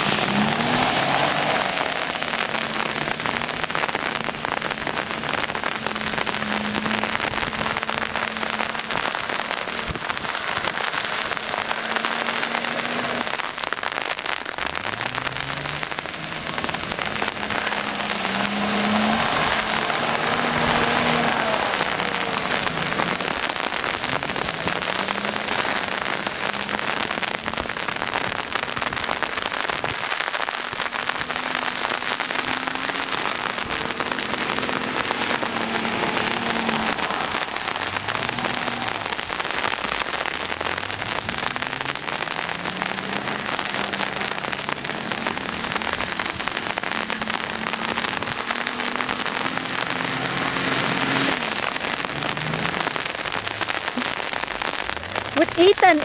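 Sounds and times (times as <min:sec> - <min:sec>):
car engine revving: 0:00.0 - 0:56.0
freezing rain on umbrella: 0:00.0 - 0:56.0.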